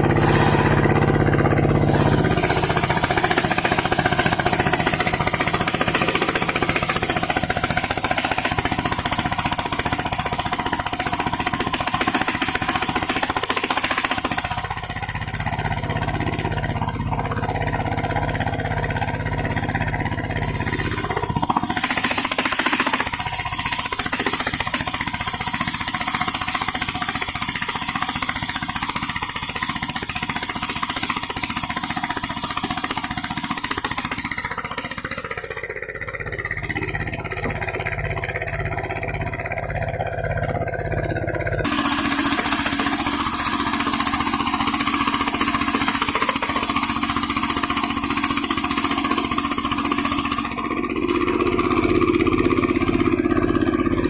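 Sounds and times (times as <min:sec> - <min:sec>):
saw blade whining: 0:00.0 - 0:54.0
sawmill engine chatter: 0:00.0 - 0:54.0.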